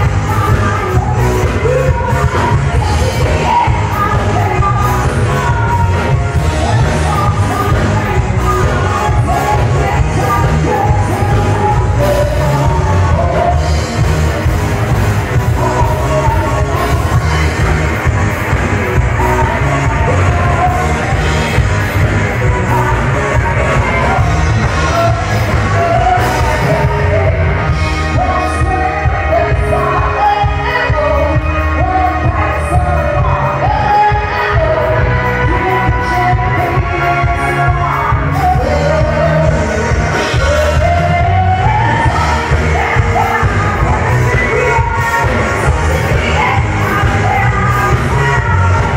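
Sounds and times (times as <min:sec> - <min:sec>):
drums: 0:00.0 - 0:48.9
heavy bass: 0:00.0 - 0:48.9
live band playing: 0:00.0 - 0:48.9
person singing: 0:00.0 - 0:48.9.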